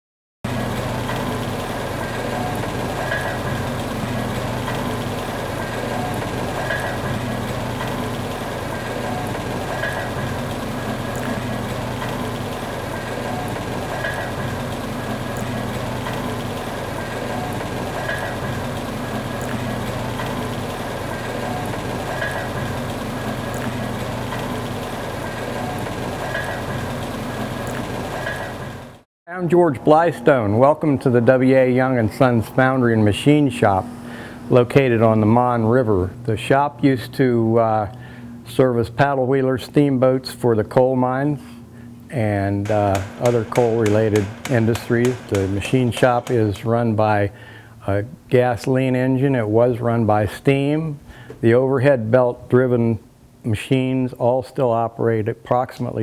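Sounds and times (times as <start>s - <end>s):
machine shop machinery rumbling: 0.5s - 56.0s.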